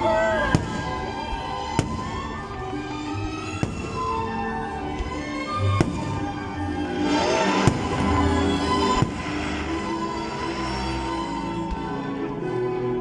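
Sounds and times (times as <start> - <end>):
fireworks bursting: 0.0 - 10.8
music: 0.0 - 13.0.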